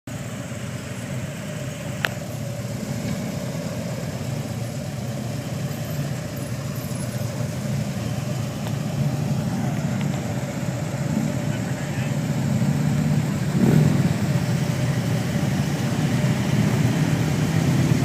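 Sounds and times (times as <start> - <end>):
motorcycle engines running: 0.1 - 18.0.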